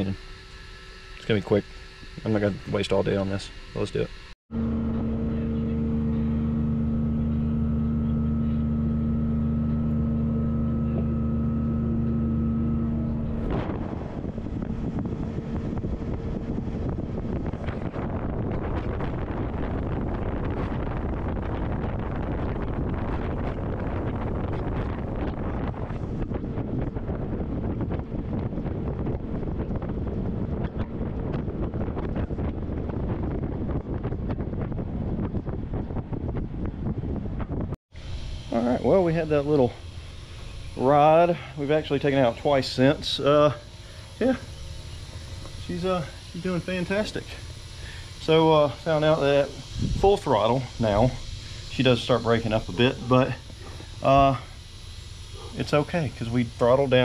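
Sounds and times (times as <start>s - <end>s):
boat engine running: 0.0s - 57.0s
wind rushing over microphone: 4.6s - 54.6s.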